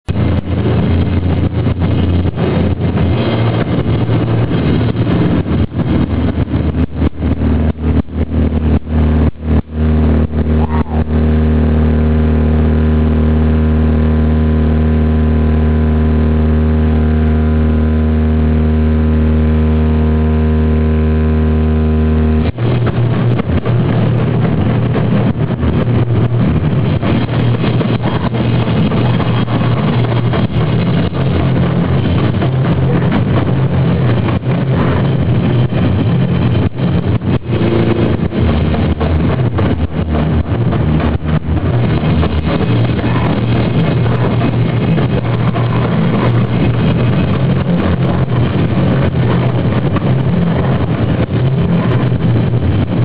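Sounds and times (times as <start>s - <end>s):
drums: 0.0s - 14.4s, 20.8s - 53.0s
distorted electric guitar: 0.0s - 53.0s.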